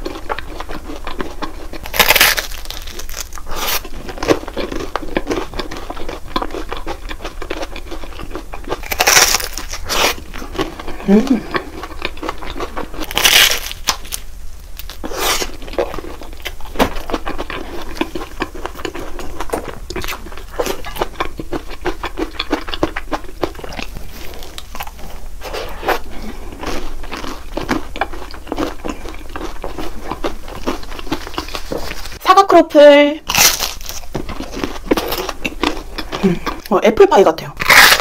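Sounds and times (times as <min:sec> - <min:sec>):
crunching and chewing: 0:00.0 - 0:32.2, 0:33.3 - 0:36.7, 0:37.6 - 0:38.0.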